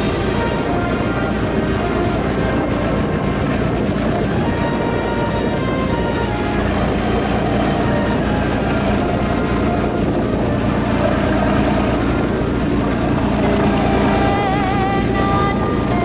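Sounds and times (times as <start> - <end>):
boat engine running: 0.0 - 16.0
wavering sustained tone: 0.0 - 16.0
wind buffeting microphone: 0.0 - 16.0.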